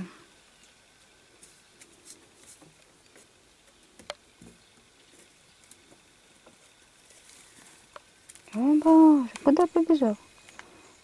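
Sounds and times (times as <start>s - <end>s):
faint rustling: 0.6s - 9.6s.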